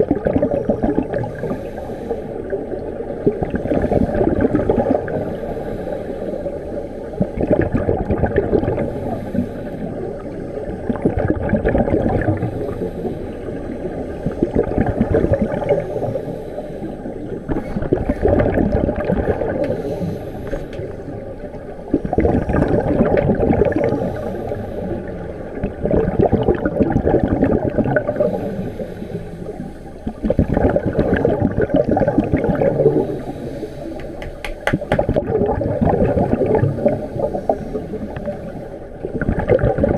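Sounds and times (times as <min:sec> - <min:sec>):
regulator exhaust bubbles underwater: 0:00.0 - 0:39.9.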